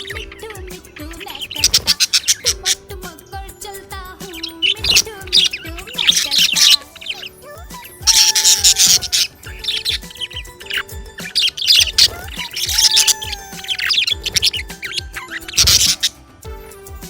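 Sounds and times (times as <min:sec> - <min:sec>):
budgerigar chirping and chattering: 0:00.0 - 0:16.4
background music with simple melody: 0:00.0 - 0:17.0.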